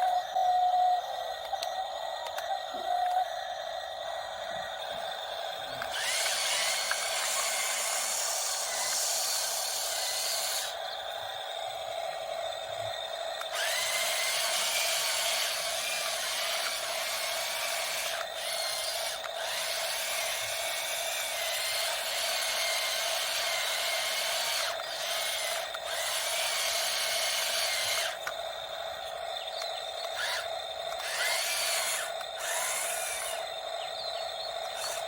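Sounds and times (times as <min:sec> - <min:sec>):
small electric motors whirring: 0:01.4 - 0:35.0.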